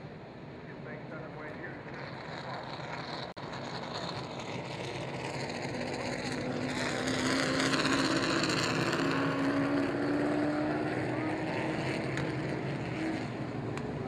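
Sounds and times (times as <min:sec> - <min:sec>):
race truck engines running: 0:00.0 - 0:14.0.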